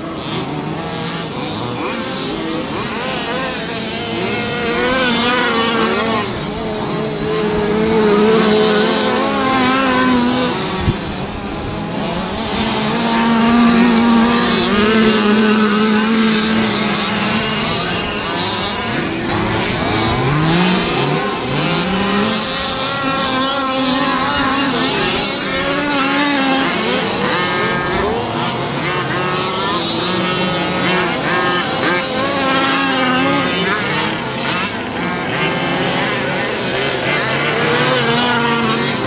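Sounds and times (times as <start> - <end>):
rc car engines revving: 0.0 - 39.0.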